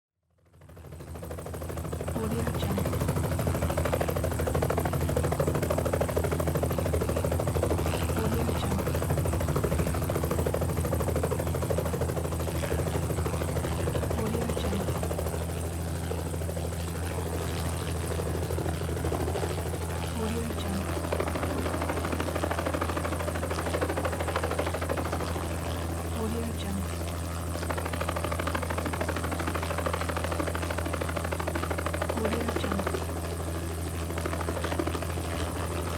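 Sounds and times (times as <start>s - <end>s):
helicopter engine and rotor chop: 0.4s - 35.9s.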